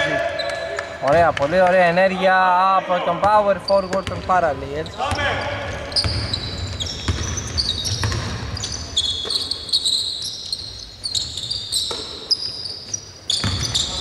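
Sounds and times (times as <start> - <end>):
sneakers squeaking on floor: 0.0 - 1.3, 3.2 - 14.0.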